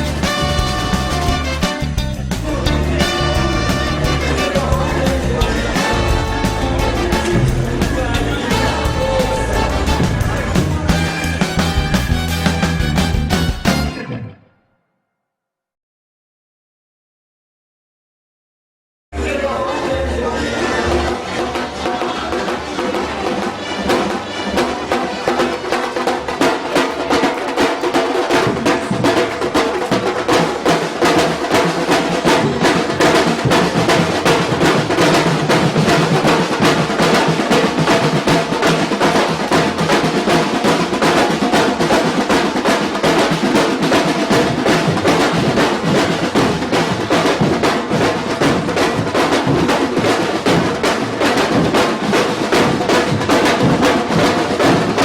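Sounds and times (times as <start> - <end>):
percussion ensemble drumming: 0.0 - 14.0, 19.2 - 55.0.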